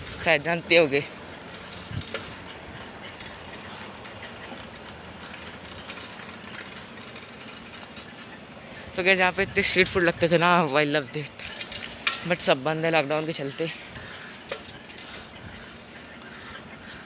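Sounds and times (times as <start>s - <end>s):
bicycle tyres rolling on road: 0.0s - 17.0s.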